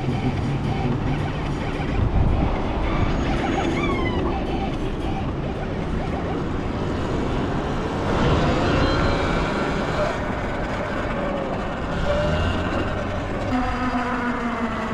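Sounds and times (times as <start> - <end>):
wind and road rush: 0.0 - 14.9.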